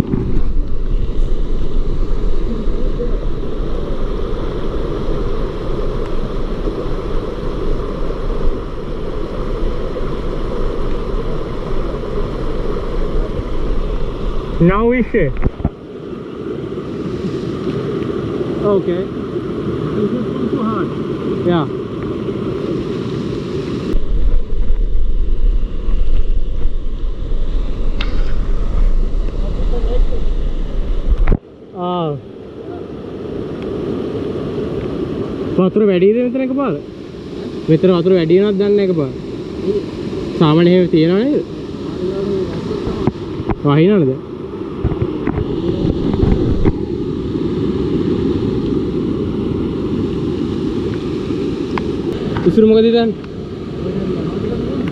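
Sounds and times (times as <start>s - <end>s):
wind buffeting microphone: 0.0s - 31.5s, 36.8s - 54.9s
waterfall rushing: 0.0s - 54.9s.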